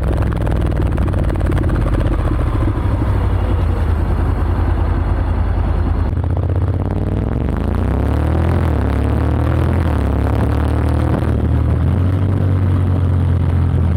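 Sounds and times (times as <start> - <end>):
motorcycle exhaust note: 0.0 - 13.9.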